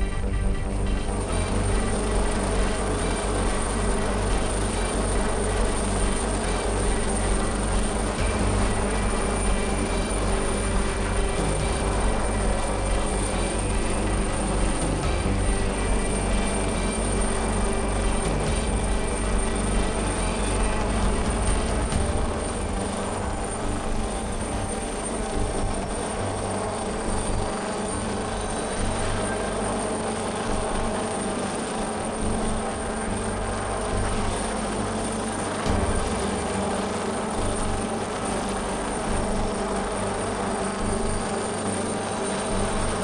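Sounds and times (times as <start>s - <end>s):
helicopter hovering: 0.0s - 43.0s
thin high whine: 0.0s - 43.0s.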